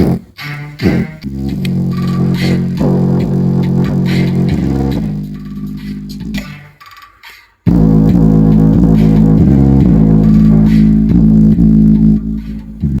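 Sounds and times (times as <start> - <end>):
loud bass-heavy music from speaker: 0.0 - 6.8, 7.7 - 13.0.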